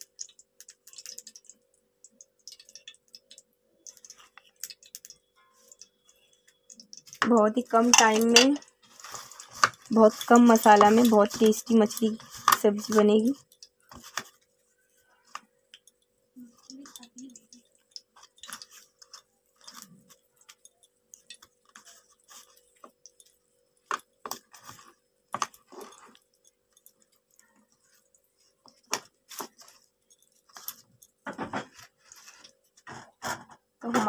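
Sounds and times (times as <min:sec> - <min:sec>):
small crackly clicks: 0:00.0 - 0:32.8
wet squelches of rubbing fish: 0:00.0 - 0:33.8.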